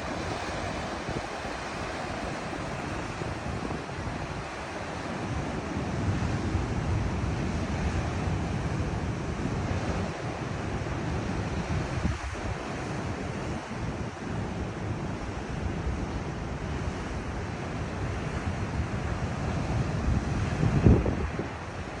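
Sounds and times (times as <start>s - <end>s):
wind buffeting microphone: 0.0s - 17.6s, 18.4s - 22.0s
ocean surf on rocky shore: 0.0s - 22.0s.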